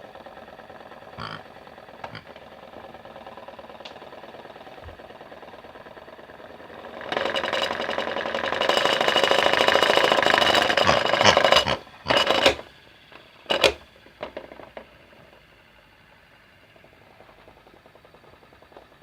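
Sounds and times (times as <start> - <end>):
toy washing machine motor rattling: 0.0 - 15.7, 16.7 - 19.0.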